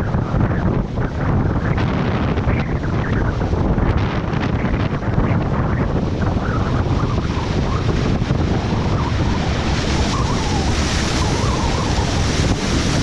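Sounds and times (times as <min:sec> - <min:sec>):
flood water washing: 0:00.0 - 0:13.0
wind buffeting microphone: 0:00.0 - 0:13.0.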